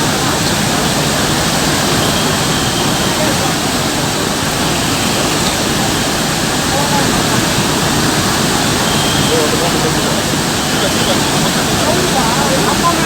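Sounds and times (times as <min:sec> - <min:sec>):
faint voices: 0:00.0 - 0:13.0
rushing torrent of water: 0:00.0 - 0:13.0.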